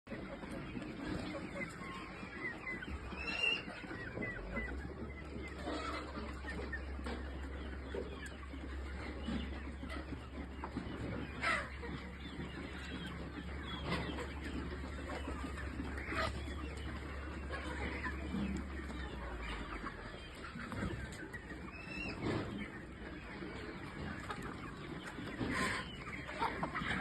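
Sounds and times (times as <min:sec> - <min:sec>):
chickens clucking: 0:00.1 - 0:27.0
loud chicken calls: 0:00.1 - 0:27.0.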